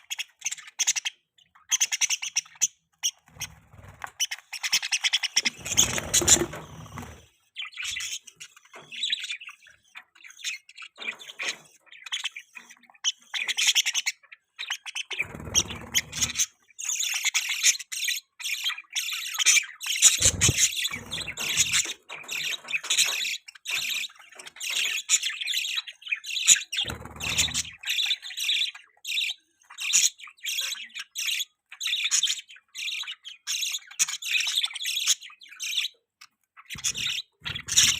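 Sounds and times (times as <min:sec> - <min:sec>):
budgerigars chirping: 0:00.0 - 0:37.9.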